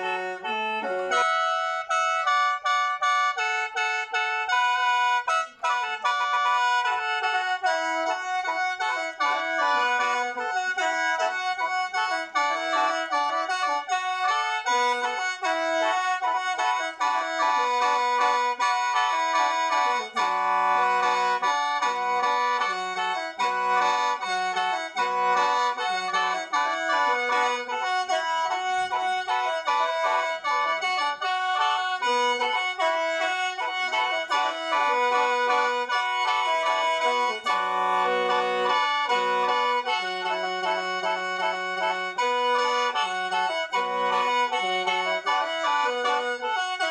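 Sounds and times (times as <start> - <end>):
mouth organ melody with drone: 0.0 - 46.9.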